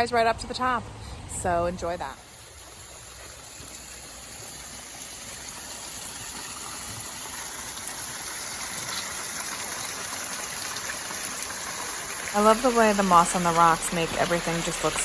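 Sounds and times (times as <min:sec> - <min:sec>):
water rushing down waterfall: 0:02.2 - 0:15.0.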